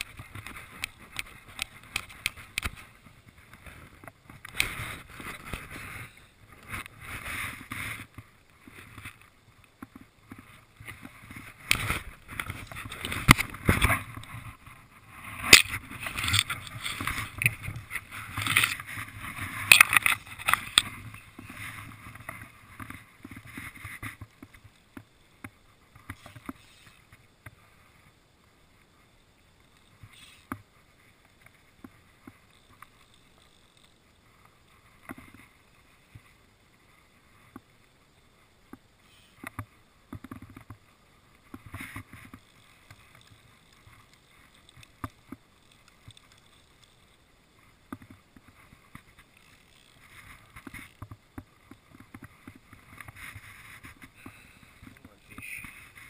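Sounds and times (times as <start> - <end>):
fishing rod and reel clicks: 0.0 - 27.6, 29.6 - 36.2, 38.7 - 56.0.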